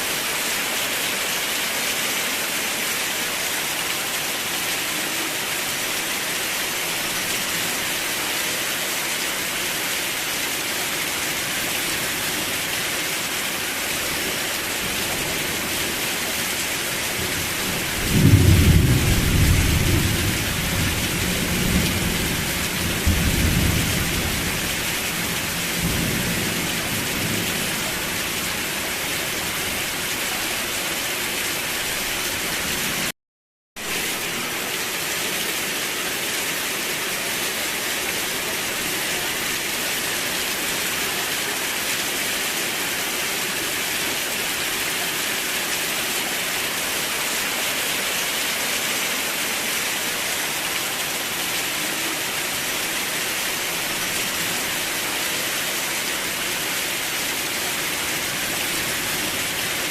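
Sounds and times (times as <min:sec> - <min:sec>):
steady rain hiss: 0:00.0 - 0:33.1, 0:33.8 - 0:59.9.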